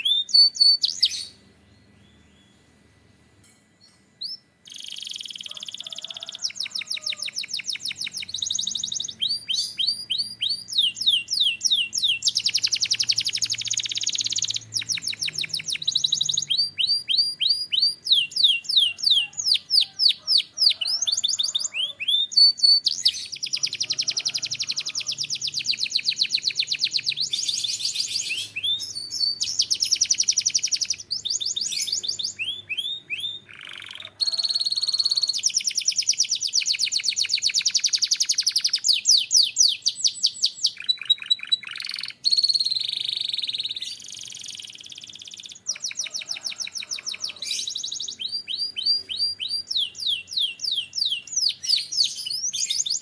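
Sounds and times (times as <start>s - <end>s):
canary singing trills: 0.0s - 2.7s, 3.8s - 53.0s.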